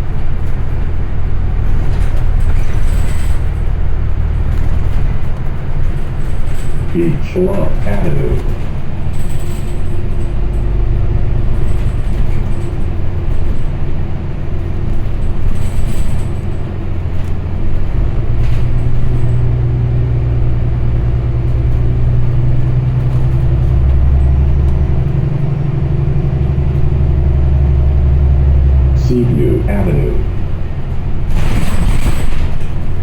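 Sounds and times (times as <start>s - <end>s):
bus engine drone: 0.0s - 33.0s
road rumble: 0.0s - 33.0s.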